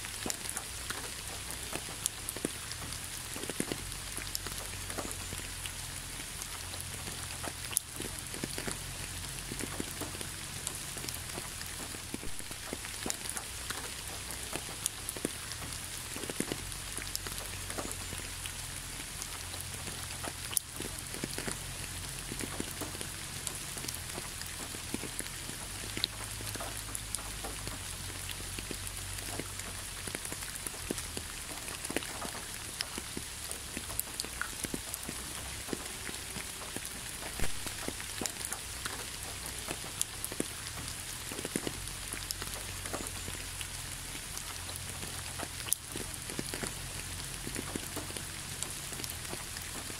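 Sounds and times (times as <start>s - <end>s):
raindrops ticking: 0.0s - 49.9s
steady rain hiss: 0.0s - 49.9s.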